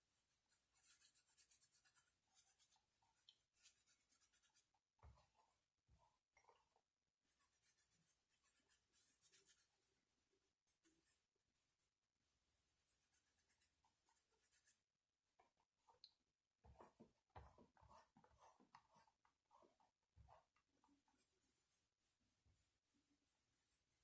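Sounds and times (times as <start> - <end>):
scratching and rubbing on foam: 0.0 - 5.4, 7.3 - 14.9, 16.9 - 24.0.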